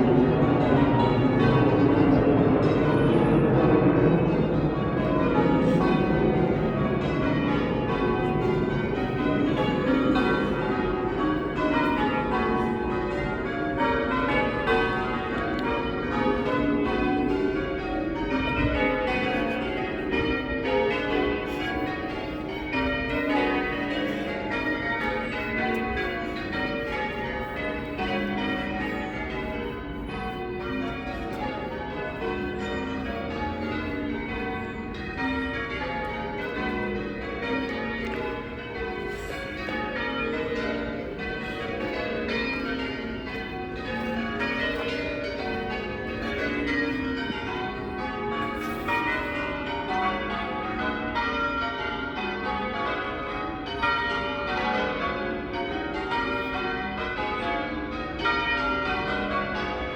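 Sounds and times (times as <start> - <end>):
church bells change ringing: 0.0 - 59.9.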